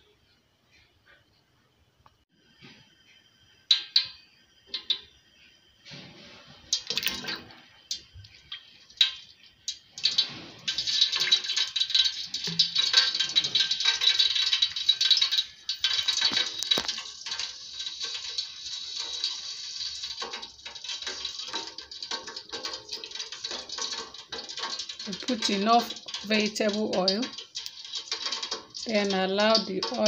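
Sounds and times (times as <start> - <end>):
oil crackling and sizzling: 2.4 - 30.0.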